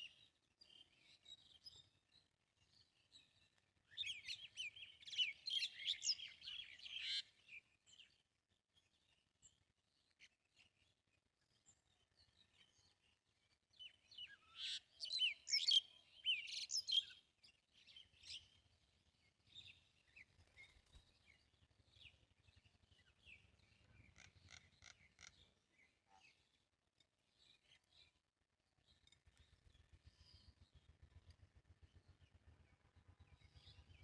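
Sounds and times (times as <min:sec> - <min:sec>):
small songbirds chirping: 0:00.0 - 0:34.0.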